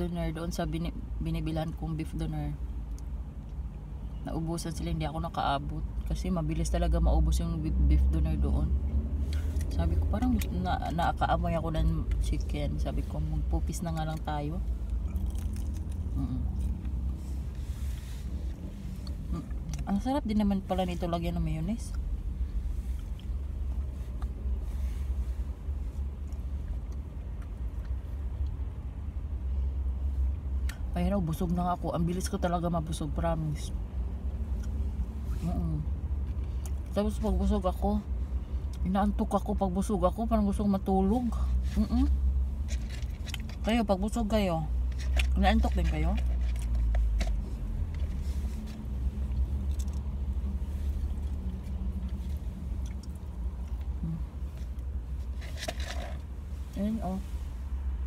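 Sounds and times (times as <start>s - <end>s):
low rumble inside car cabin: 0.0s - 58.0s.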